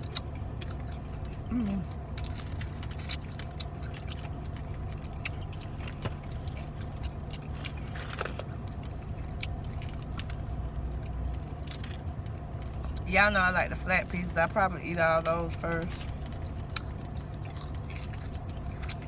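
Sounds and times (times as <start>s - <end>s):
person chewing food: 0.0s - 13.1s, 15.8s - 19.0s
car cabin engine hum: 0.0s - 19.0s.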